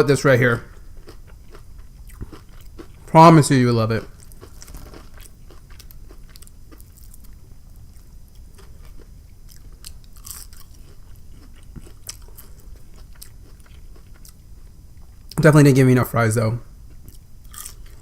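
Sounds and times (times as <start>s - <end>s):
crunchy food chewing: 0.4s - 15.4s, 16.8s - 18.0s.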